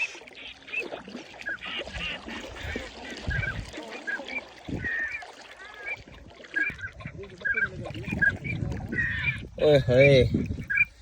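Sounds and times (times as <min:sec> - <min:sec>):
waterfowl calling: 0:00.0 - 0:11.0.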